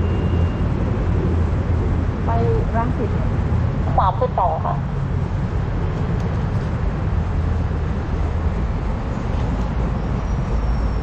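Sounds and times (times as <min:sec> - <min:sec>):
train station ambience: 0:00.0 - 0:11.0.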